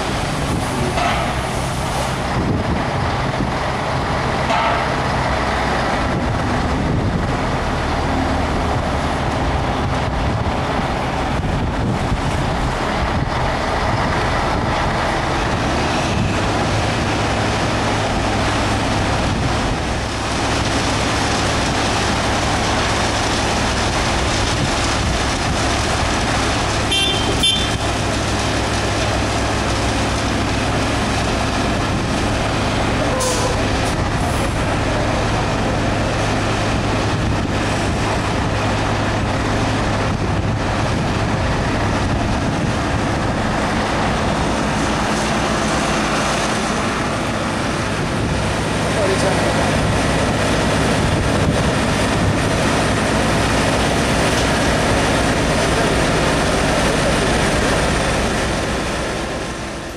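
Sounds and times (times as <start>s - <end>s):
diesel machinery droning: 0.0s - 59.9s.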